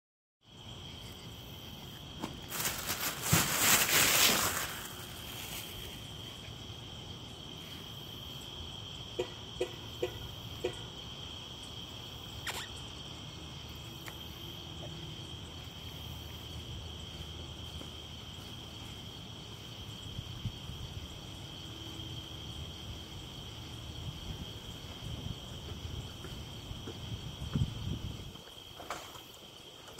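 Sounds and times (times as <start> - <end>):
night insects trilling: 0.4 - 29.9.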